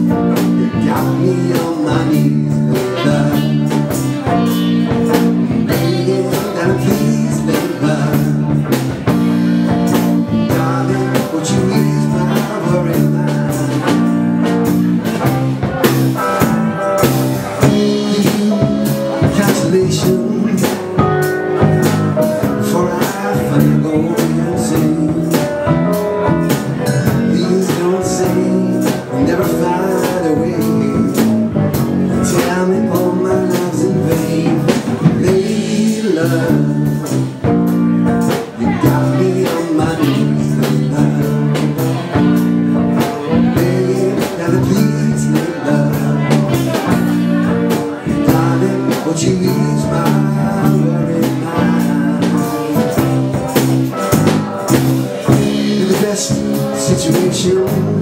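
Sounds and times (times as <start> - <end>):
live dance band playing: 0.0 - 58.0
steady drum beat: 0.0 - 58.0.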